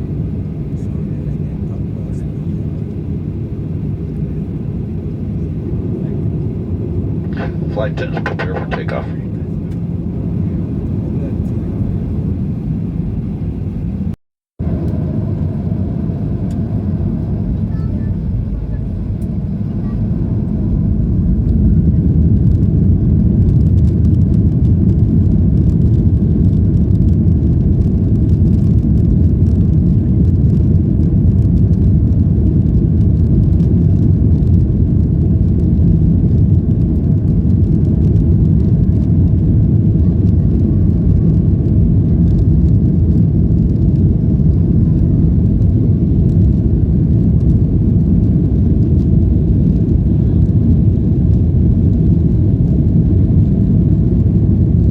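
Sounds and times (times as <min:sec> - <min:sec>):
jet engines roaring in cabin: 0:00.0 - 0:54.9.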